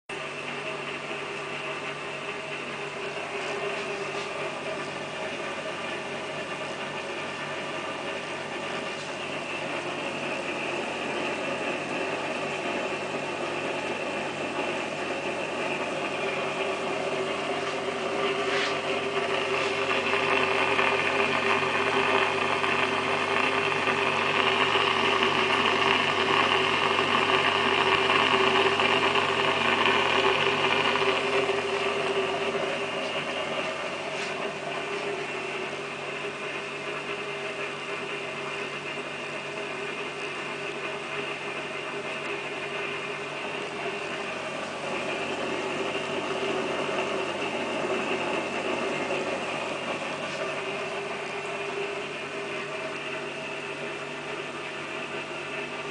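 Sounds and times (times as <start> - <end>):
aquarium filter motor hum: 0.1 - 55.9.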